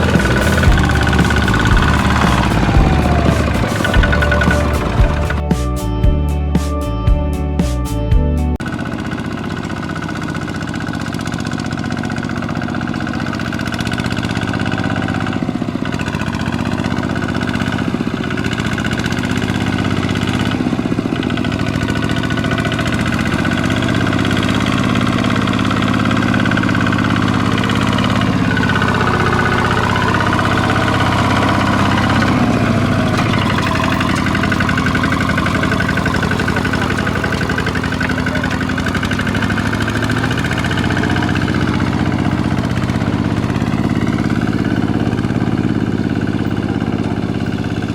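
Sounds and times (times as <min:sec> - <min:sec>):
walking tractor engine running: 0:00.0 - 0:06.2, 0:08.5 - 0:47.9.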